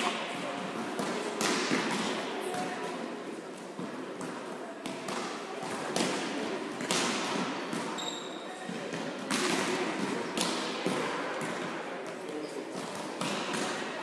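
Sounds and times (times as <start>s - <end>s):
volleyballs thudding in echoing hall: 0.0s - 14.0s.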